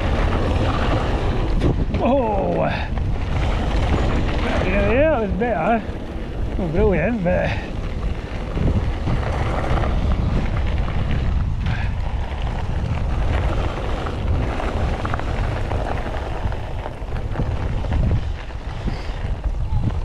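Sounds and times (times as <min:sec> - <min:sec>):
bike rattles and clicks: 0:00.0 - 0:20.0
bike tyres rolling on dirt: 0:00.0 - 0:20.0
wind rumble on microphone: 0:00.0 - 0:20.0.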